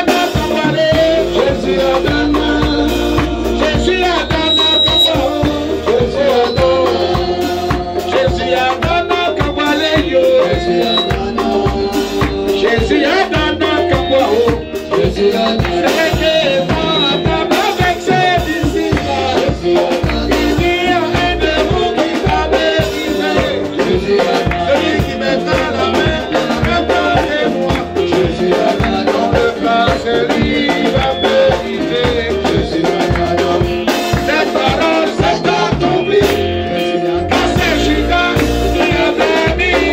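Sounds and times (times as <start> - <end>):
drum kit beat: 0.0 - 39.9
man singing into microphone: 0.0 - 39.9.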